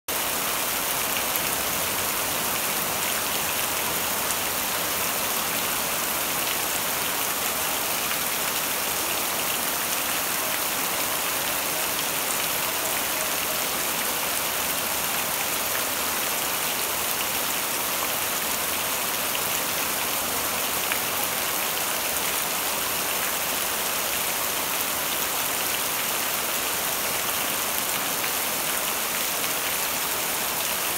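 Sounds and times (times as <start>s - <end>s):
rain on leafy trees: 0.1s - 30.9s.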